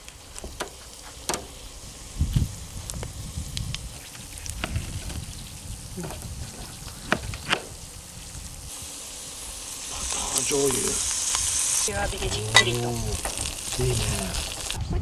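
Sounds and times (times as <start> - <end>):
sauce sizzling in a hot skillet: 0.0 - 14.8
food sizzling on a grill: 0.0 - 15.0.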